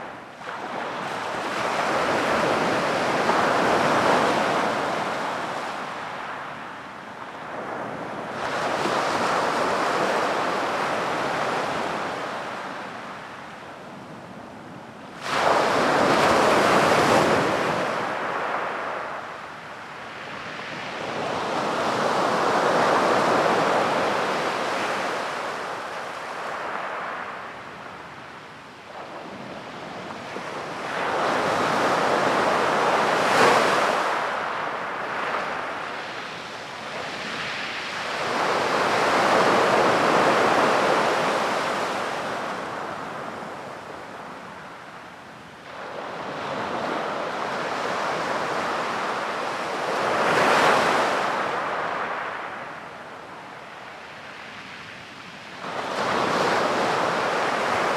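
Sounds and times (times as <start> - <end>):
ocean waves breaking on beach: 0.0 - 57.9
wind noise on microphone: 0.0 - 57.9.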